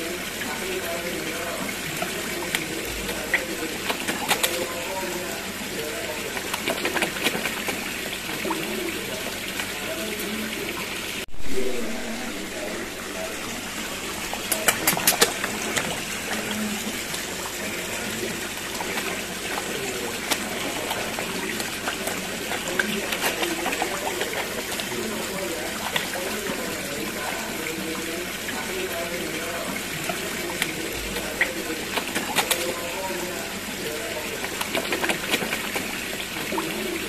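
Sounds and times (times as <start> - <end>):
fish splashing water: 0.0 - 37.0.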